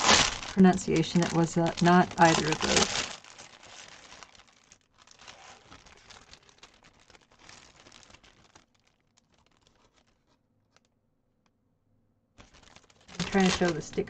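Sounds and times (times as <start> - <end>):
plastic bag crinkling: 0.0 - 10.9, 12.4 - 14.0.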